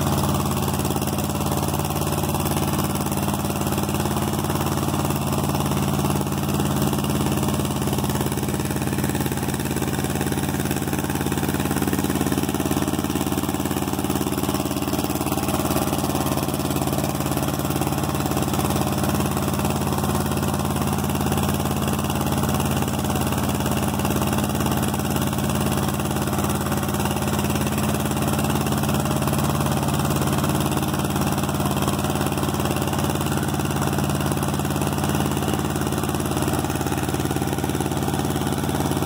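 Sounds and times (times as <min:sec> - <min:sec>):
leaf blower: 0:00.0 - 0:39.0
tractor engine running: 0:00.0 - 0:39.0.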